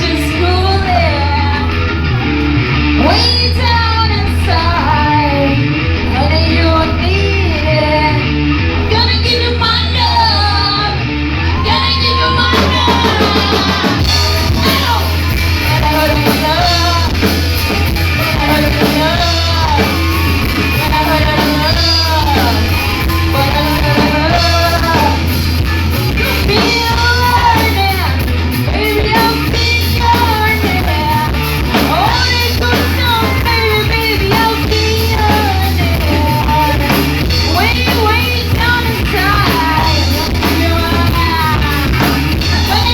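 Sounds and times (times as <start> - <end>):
person singing: 0.0 - 2.4, 3.0 - 8.2, 8.8 - 42.9
live rock band playing: 0.0 - 42.9.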